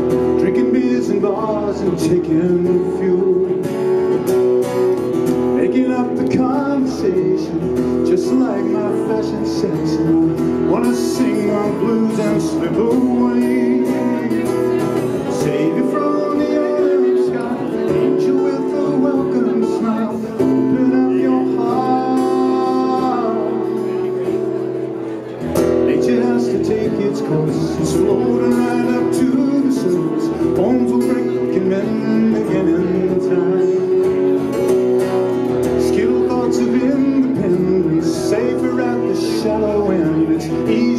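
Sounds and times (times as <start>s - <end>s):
man singing: 0.0s - 40.9s
strummed acoustic guitar: 0.0s - 40.9s.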